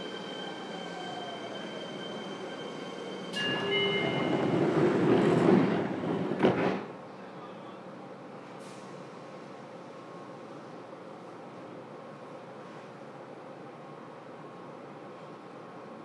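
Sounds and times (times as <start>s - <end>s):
train rush of noise: 0.0s - 16.0s.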